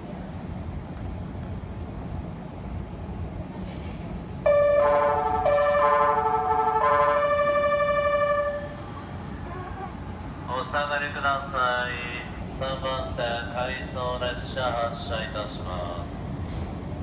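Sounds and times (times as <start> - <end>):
low rumble of station noise: 0.0 - 17.0.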